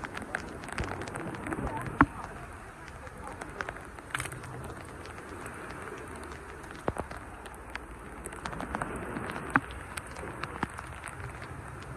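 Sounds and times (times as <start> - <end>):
raindrops ticking close by: 0.0 - 11.9
steady rain: 0.0 - 11.9.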